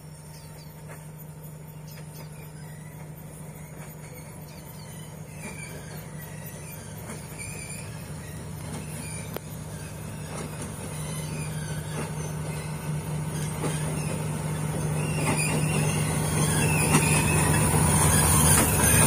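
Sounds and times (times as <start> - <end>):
locomotive engine drone: 0.0 - 19.0.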